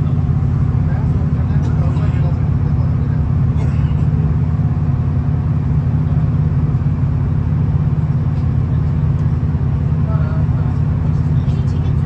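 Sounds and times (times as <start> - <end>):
diesel railcar rumbling on track: 0.0 - 12.0.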